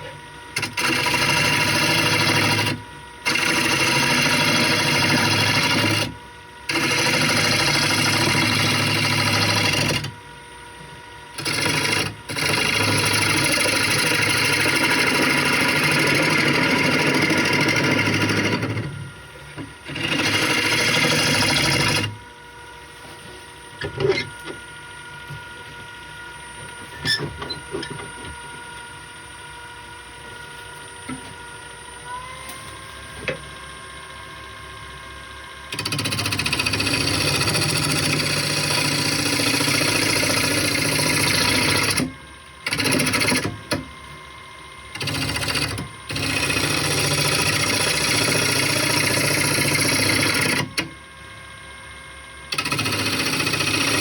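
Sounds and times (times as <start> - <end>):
wood lathe motor whine: 0.0 - 54.0.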